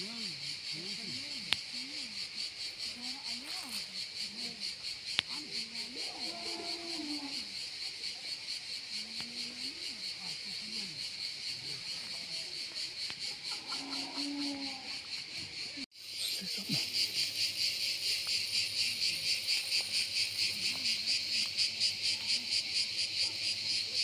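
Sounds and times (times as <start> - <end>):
faint voices murmuring: 0.0 - 24.0
insects chirping: 0.0 - 24.0.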